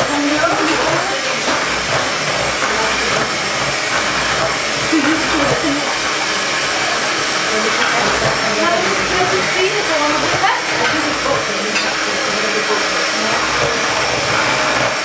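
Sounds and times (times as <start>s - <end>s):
electric hand mixer whisking: 0.0s - 15.0s.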